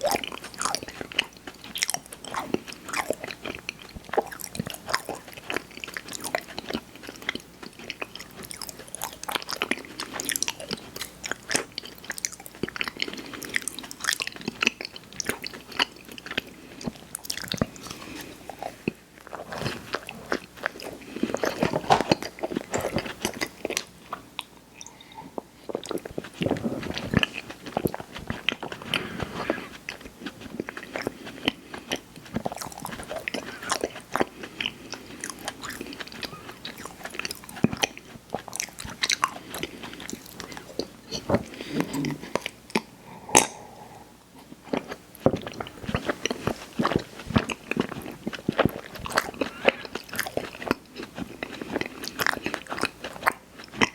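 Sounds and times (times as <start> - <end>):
person chewing snack cakes: 0.0 - 53.9.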